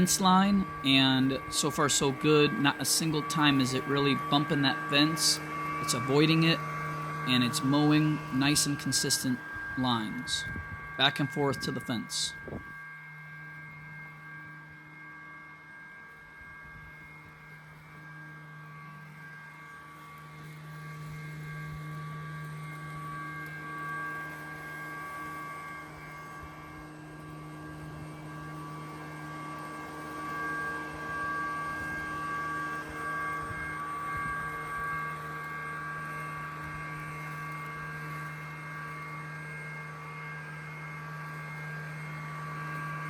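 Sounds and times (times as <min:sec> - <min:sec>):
robot lawn mower humming: 0:00.0 - 0:43.0.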